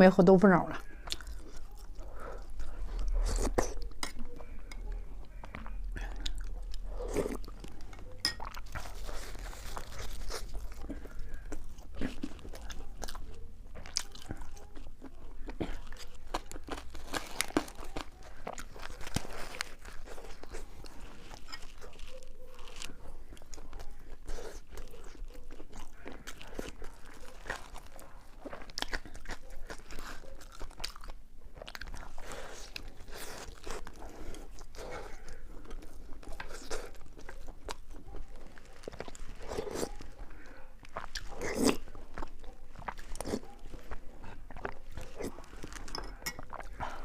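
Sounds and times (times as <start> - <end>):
person chewing crisp food: 0.7 - 47.0.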